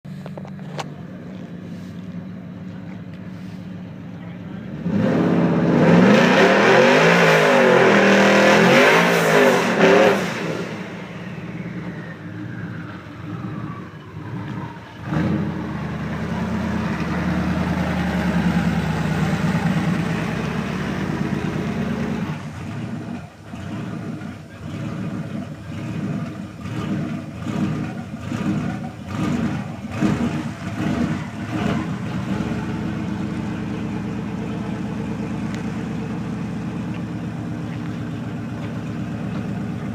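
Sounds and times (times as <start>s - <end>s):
lower uneven engine pulses: 0.0s - 39.9s
truck engine at full throttle: 0.0s - 39.9s.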